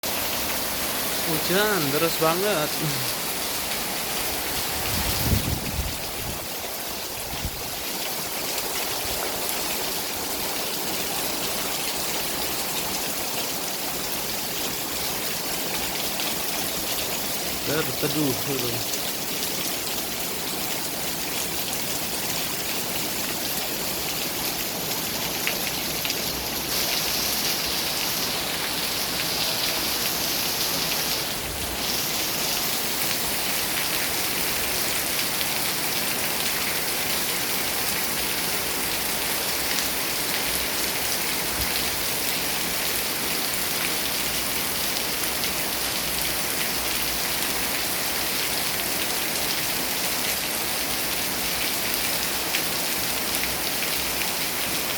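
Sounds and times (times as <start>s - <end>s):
heavy rain on pavement: 0.0s - 54.9s.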